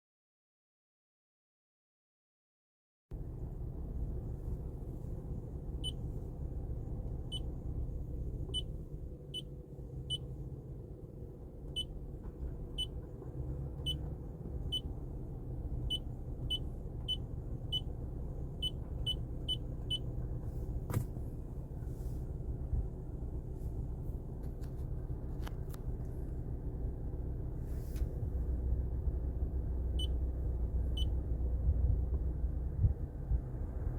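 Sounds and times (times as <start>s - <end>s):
low cabin rumble: 3.1s - 33.9s.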